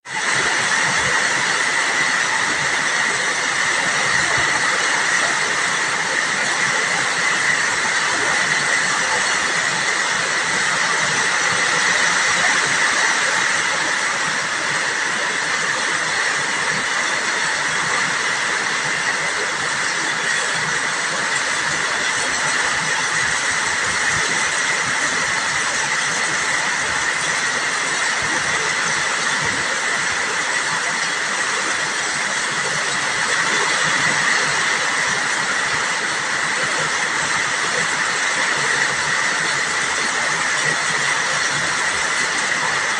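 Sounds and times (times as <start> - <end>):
rain falling steadily: 0.1 - 42.9.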